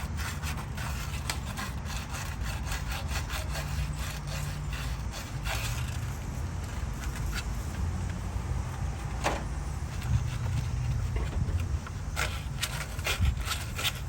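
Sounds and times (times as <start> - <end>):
sandpaper scraping: 0.0 - 8.9, 9.8 - 14.0.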